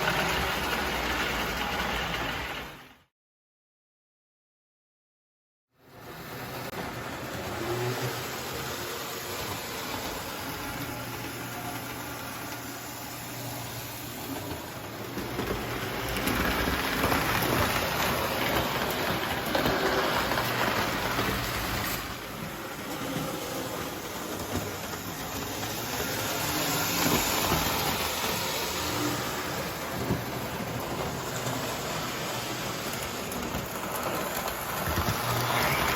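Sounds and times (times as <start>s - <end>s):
toy train rattling on track: 0.0s - 2.8s, 6.0s - 35.9s.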